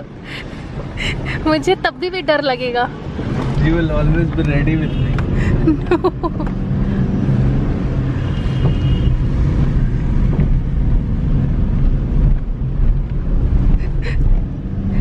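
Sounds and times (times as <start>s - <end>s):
car engine running: 0.0s - 15.0s
tyre and road rumble: 0.0s - 15.0s.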